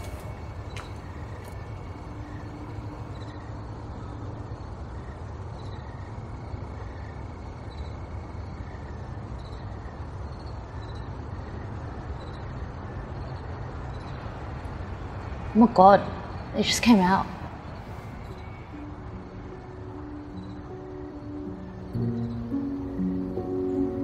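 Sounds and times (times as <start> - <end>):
distant traffic rumble: 0.0 - 24.0.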